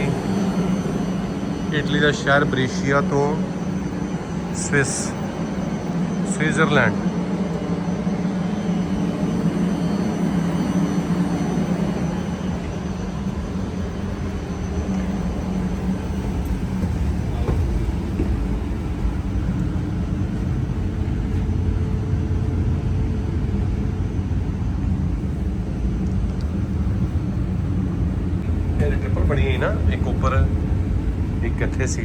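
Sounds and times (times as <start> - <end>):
hum: 0.0 - 32.0
train rumbling: 0.0 - 32.0.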